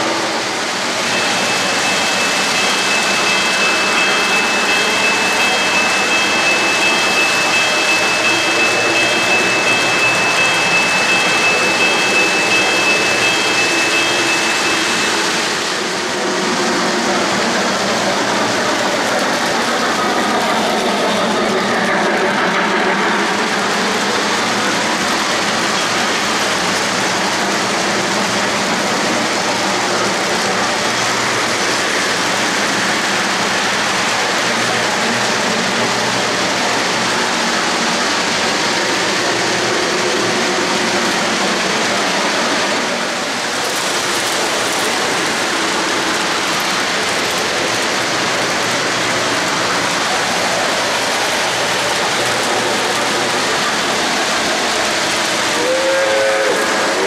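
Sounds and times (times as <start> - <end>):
model trains clattering on rails: 0.0 - 57.0.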